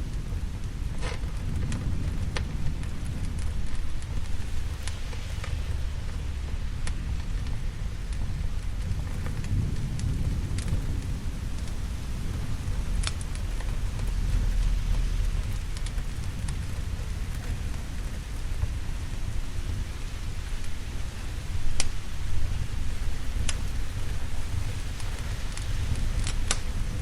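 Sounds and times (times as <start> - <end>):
heavy rain: 0.0 - 27.0
rolling thunder rumble: 0.0 - 27.0
sharp crackling pops: 0.0 - 27.0.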